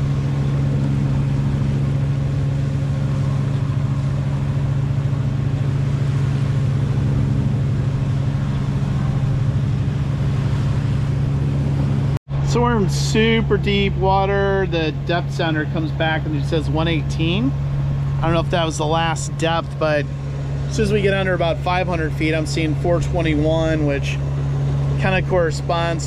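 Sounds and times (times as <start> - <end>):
boat engine droning: 0.0 - 26.0
water splashing along hull: 0.0 - 26.0.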